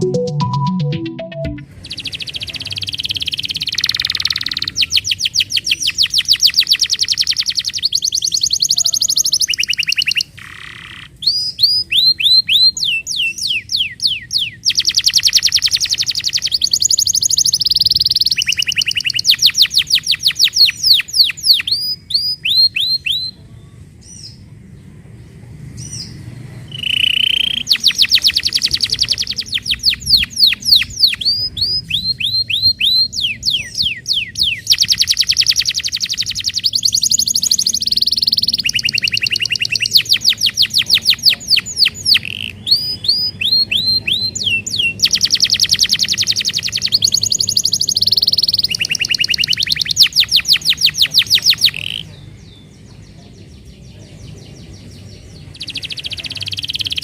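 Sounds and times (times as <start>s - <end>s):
canary singing fast trills: 1.7s - 24.4s, 25.8s - 57.0s.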